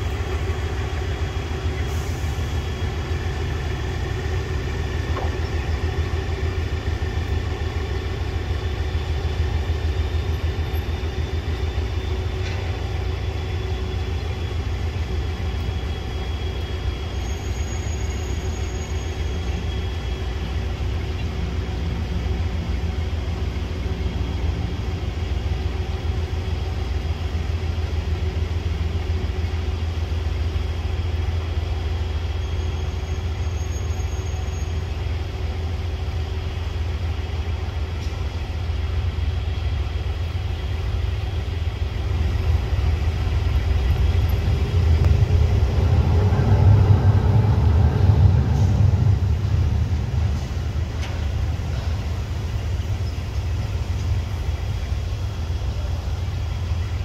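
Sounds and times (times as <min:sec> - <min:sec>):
diesel locomotive engine rumbling: 0:00.0 - 0:57.0.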